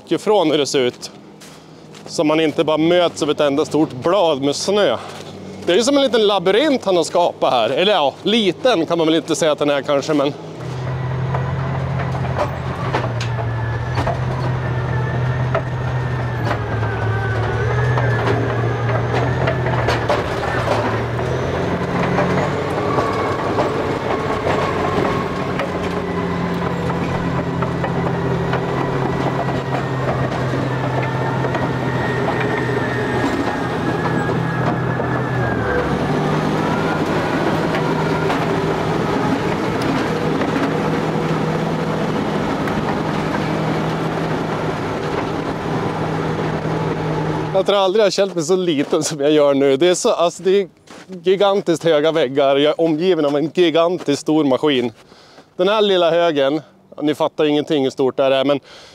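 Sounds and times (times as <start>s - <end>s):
bulldozer diesel engine running: 0.0s - 53.8s
steel tracks clanking and squeaking: 0.0s - 57.2s.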